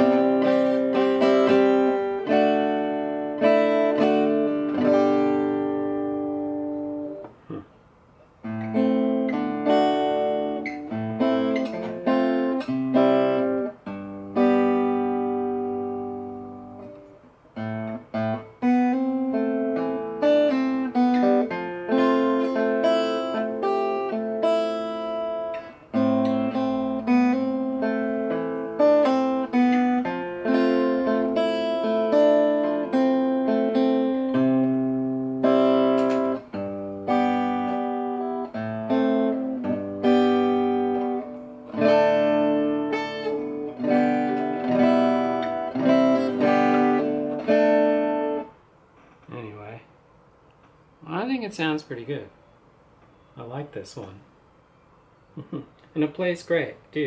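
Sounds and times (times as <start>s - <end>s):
fingerstyle acoustic guitar: 0.0s - 49.4s.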